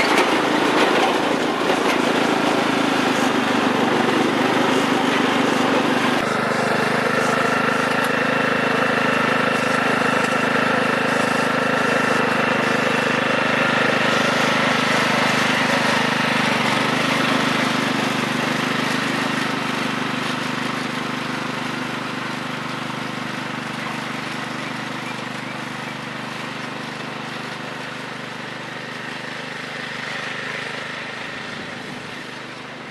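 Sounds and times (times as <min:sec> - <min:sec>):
riding mower engine running: 0:00.0 - 0:32.9.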